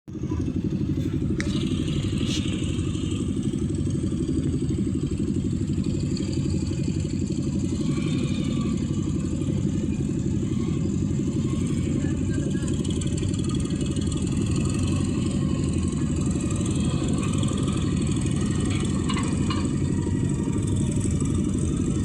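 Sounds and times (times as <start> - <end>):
heavy diesel engine running: 0.1 - 22.0.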